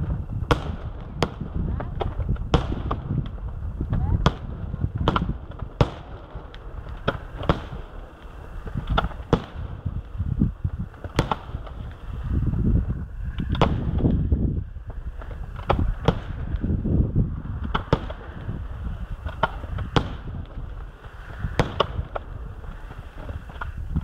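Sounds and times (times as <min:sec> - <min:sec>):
firework shells bursting: 0:00.0 - 0:12.6, 0:13.3 - 0:23.9
constant low rumble: 0:00.0 - 0:24.0.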